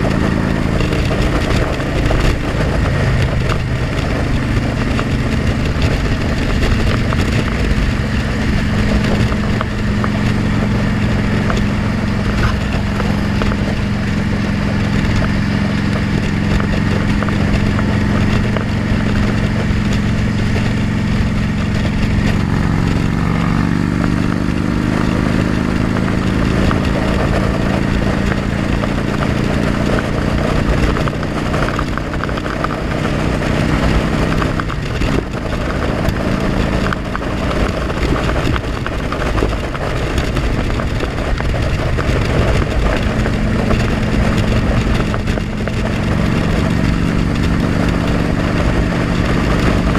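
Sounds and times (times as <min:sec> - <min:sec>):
motorcycle engine running: 0:00.0 - 0:49.9
wind rush noise: 0:00.0 - 0:49.9.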